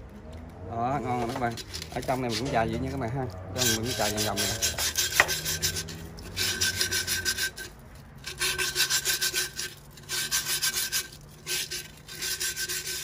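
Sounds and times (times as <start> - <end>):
sandpaper rasping on glass: 1.0 - 13.0.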